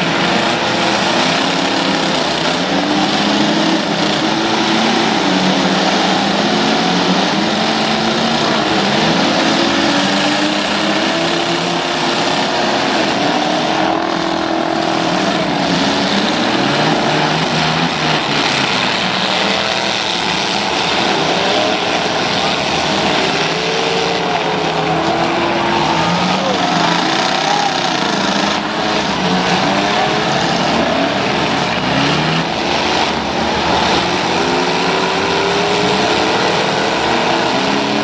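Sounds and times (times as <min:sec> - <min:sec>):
truck engines revving: 0:00.0 - 0:38.0.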